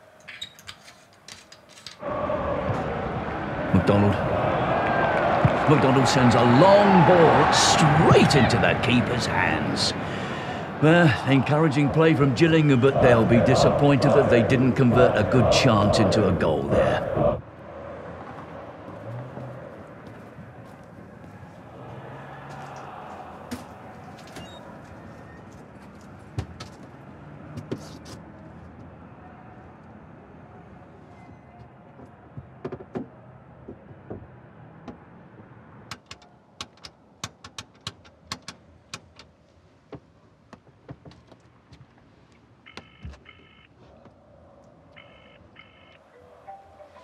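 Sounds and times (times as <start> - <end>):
faint street noise: 0.0 - 47.0.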